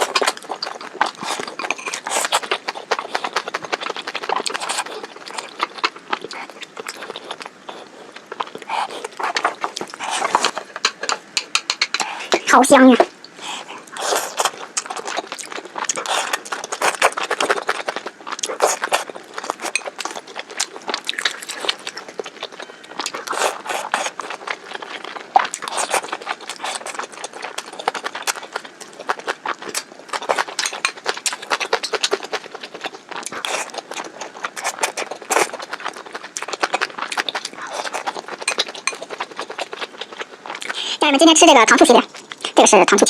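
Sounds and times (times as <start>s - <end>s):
chewing and crunching food: 0.0s - 43.0s.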